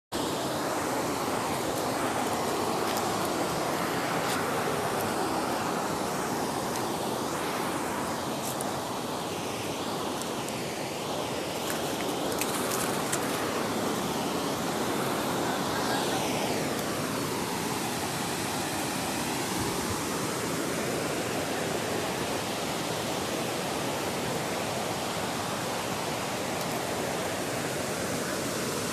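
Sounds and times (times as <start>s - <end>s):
waterfall rushing: 0.2s - 28.9s.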